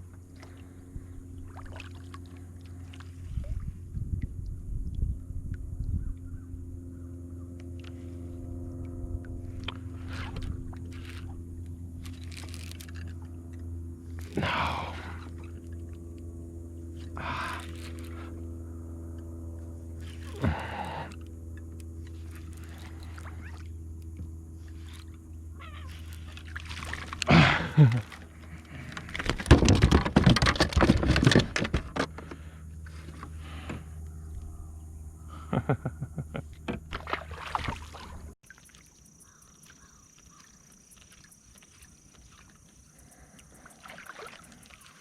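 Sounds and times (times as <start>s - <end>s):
water splashing around kayak: 0.0s - 4.8s, 6.7s - 34.5s, 36.4s - 45.0s
steady low hum: 0.0s - 38.4s.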